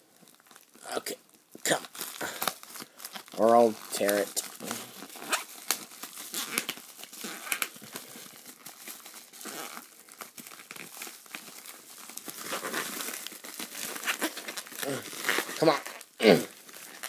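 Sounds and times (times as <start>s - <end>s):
package wrapping ripping: 1.7s - 17.0s.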